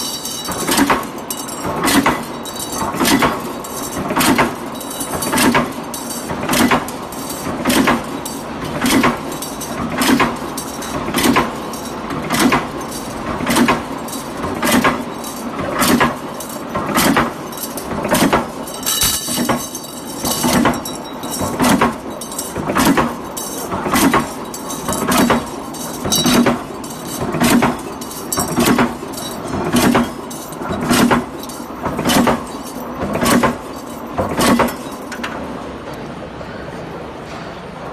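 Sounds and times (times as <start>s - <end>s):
metallic clinking: 0.0s - 35.6s.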